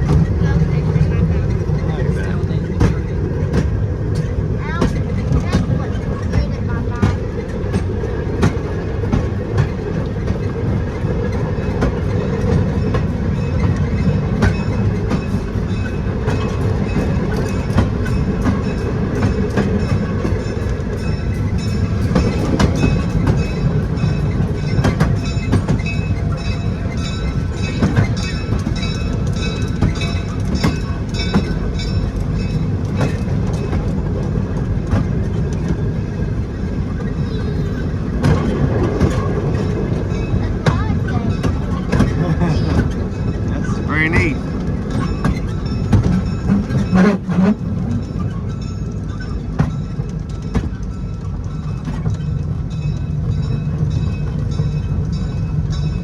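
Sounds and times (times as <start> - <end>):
train rumble from aboard: 0.0 - 56.0
wheels clicking over rail joints: 0.0 - 56.0.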